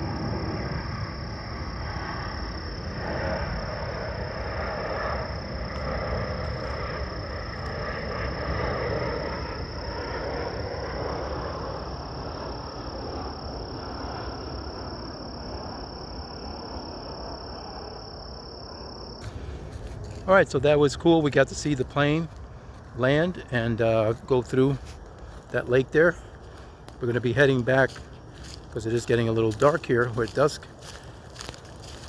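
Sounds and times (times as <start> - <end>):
distant jet airliner rumble: 0.0 - 32.0
high-pitched insect drone: 0.0 - 32.0.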